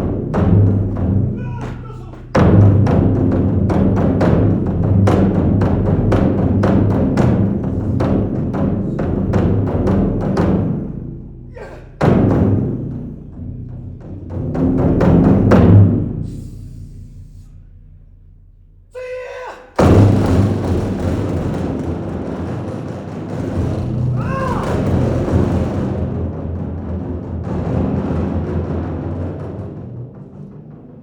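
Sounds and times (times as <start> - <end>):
drum roll: 0.0 - 17.4, 19.8 - 31.0.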